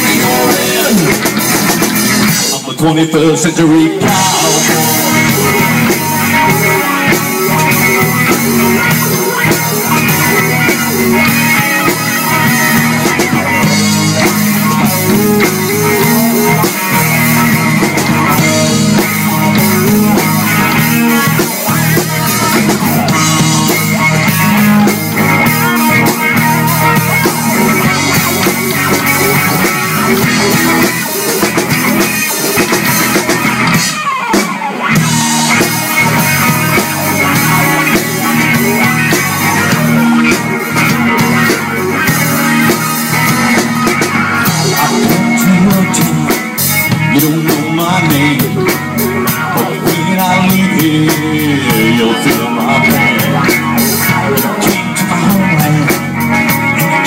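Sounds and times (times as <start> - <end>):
drum kit beat: 0.0 - 2.8, 3.7 - 57.0
electric guitar: 0.0 - 57.0.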